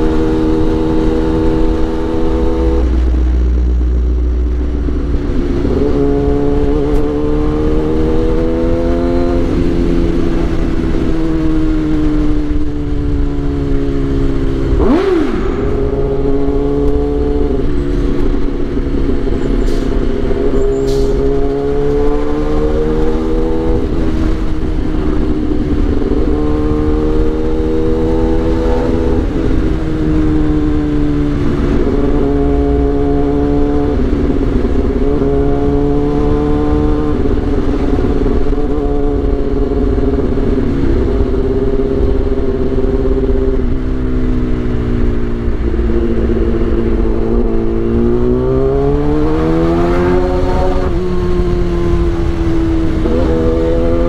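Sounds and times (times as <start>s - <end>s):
low wind rumble: 0.0s - 54.0s
motorcycle engine revving: 0.0s - 54.0s.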